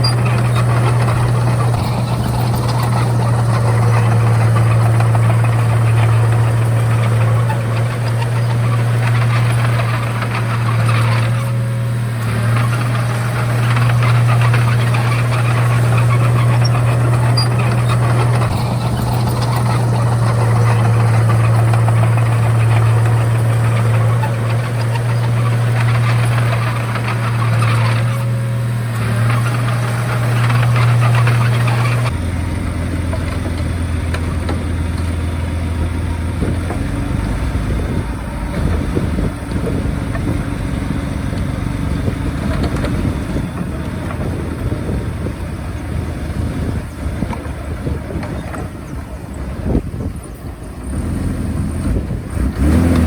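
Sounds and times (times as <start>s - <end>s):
bulldozer diesel engine: 0.0s - 53.0s.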